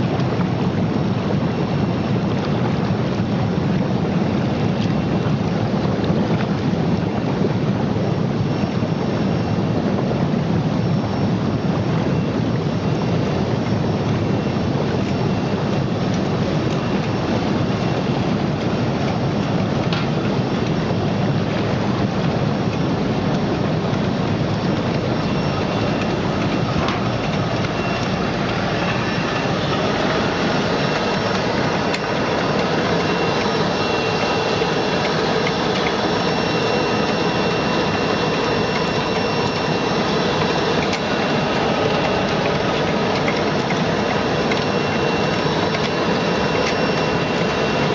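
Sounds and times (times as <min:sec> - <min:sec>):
low even hum: 0:00.0 - 0:47.9
water churning and splashing: 0:00.0 - 0:47.9.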